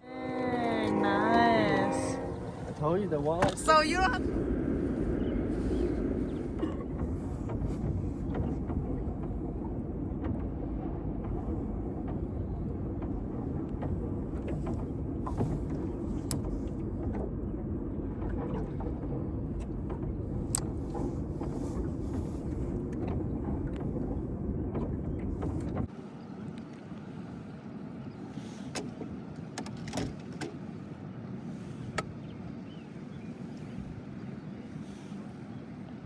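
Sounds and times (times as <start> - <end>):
boat engine low rumble: 0.0 - 36.0.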